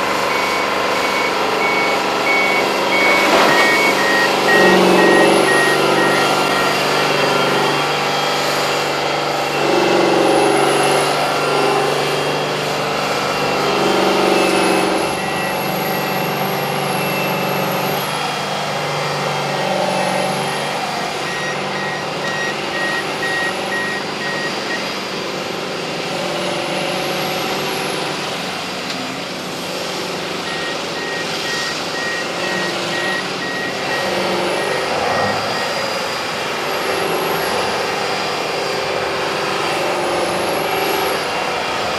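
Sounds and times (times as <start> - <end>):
reversing alarm beeping: 0.0 - 25.5, 29.7 - 41.4
high whine: 0.0 - 26.2, 27.3 - 41.9
heavy truck engine running: 0.0 - 41.9.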